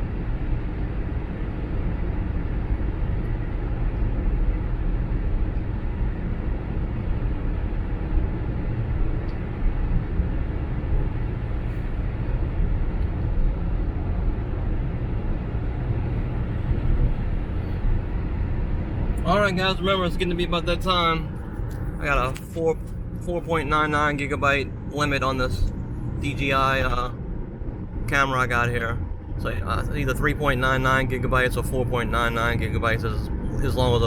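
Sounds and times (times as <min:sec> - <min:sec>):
car road and engine noise: 0:00.0 - 0:34.0.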